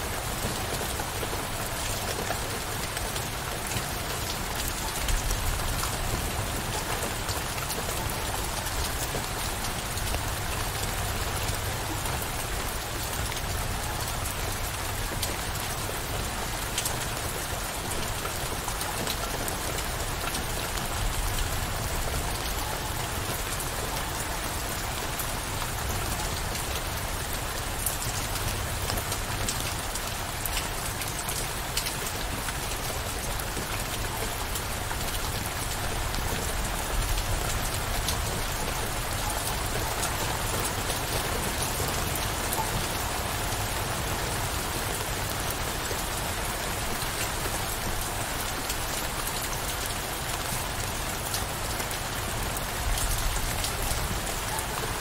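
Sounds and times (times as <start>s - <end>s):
raindrops ticking on a surface: 0.0s - 55.0s.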